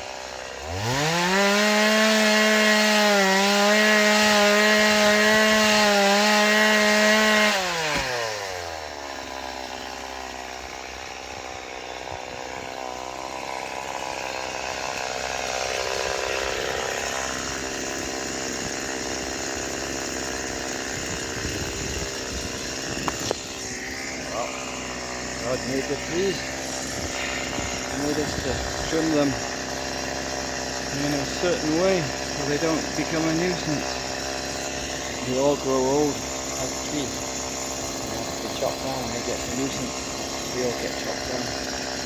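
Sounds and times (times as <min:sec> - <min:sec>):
chainsaw engine revving and idling: 0:00.0 - 0:42.0.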